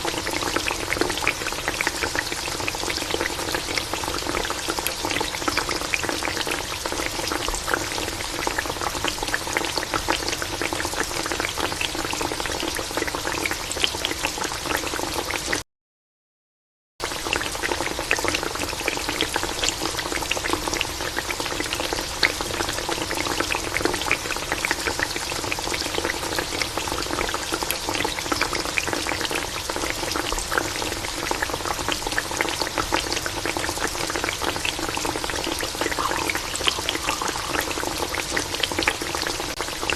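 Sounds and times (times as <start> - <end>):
frying in hot oil sizzling: 0.0 - 15.6, 17.0 - 39.9.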